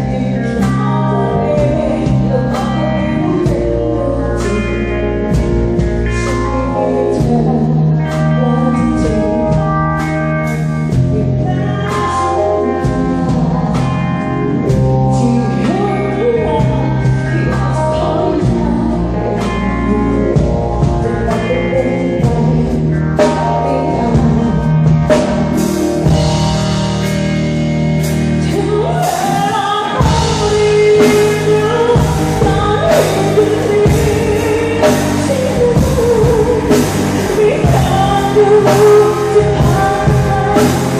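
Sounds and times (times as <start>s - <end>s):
person singing: 0.0s - 27.1s, 28.1s - 40.9s
band playing: 0.0s - 40.9s
bass line: 0.0s - 40.9s.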